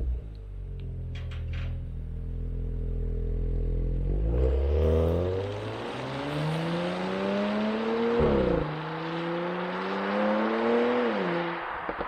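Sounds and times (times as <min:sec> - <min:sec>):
car engine accelerating: 0:02.1 - 0:12.0.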